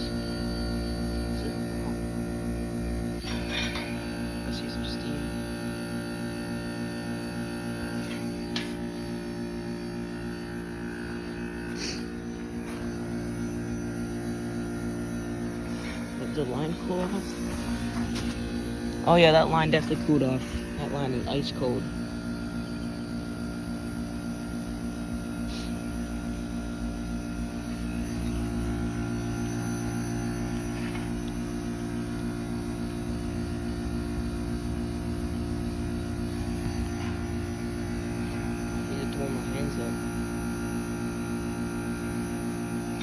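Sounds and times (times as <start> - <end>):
heat pump compressor humming: 0.0 - 43.0.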